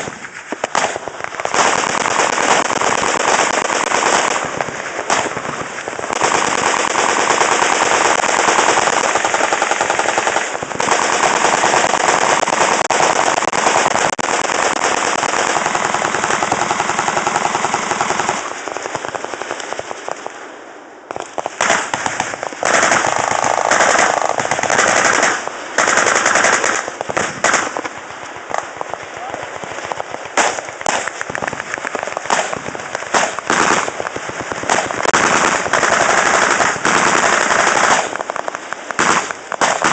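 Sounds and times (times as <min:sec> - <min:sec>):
machine-gun fire: 0:00.0 - 0:20.3, 0:21.1 - 0:39.9.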